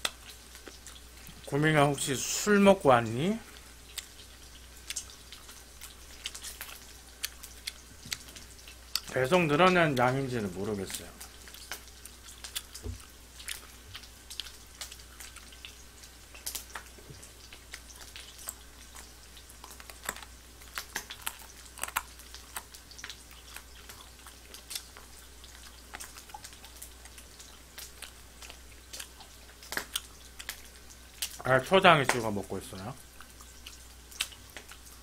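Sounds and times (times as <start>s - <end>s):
mouth chewing wet clicks: 3.5s - 9.2s, 10.9s - 32.3s, 33.0s - 35.0s.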